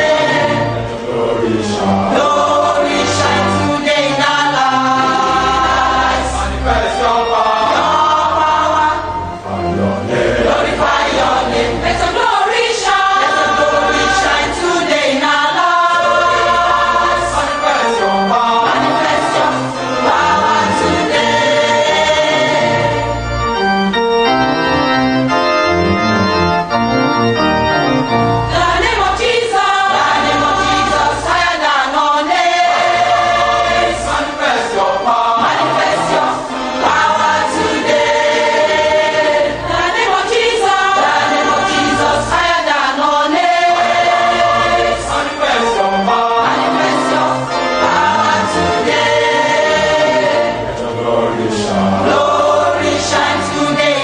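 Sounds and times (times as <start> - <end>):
choir singing gospel: 0.0 - 24.8, 27.8 - 54.0
organ accompaniment: 0.0 - 54.0.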